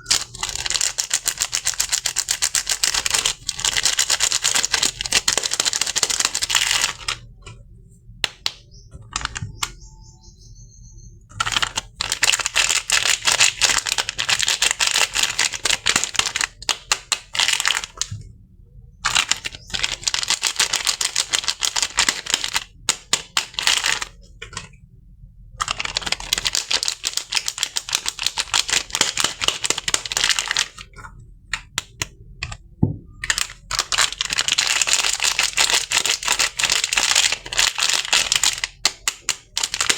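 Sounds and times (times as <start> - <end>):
packaging crackling and clicking: 0.0 - 7.6, 8.2 - 9.8, 11.3 - 18.2, 19.0 - 24.8, 25.6 - 32.6, 33.2 - 39.9.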